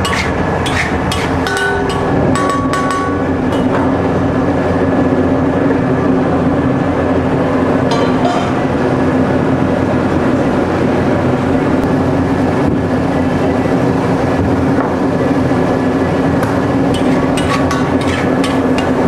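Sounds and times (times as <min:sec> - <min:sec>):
loud mechanical drone: 0:00.0 - 0:19.0.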